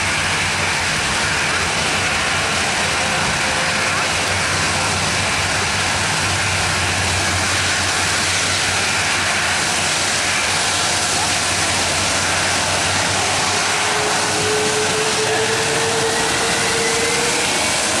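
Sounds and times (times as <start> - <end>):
jet engines at taxi power: 0.0 - 18.0.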